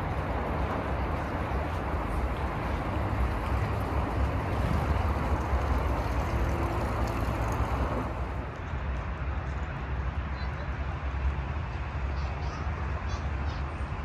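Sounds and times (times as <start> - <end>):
city road traffic: 0.0 - 14.0.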